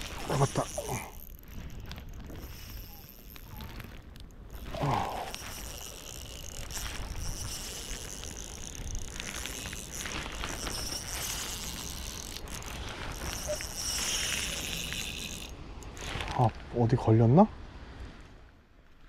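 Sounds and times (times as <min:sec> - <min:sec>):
fishing reel clicking: 0:00.0 - 0:16.1
insect chirring: 0:00.0 - 0:16.2.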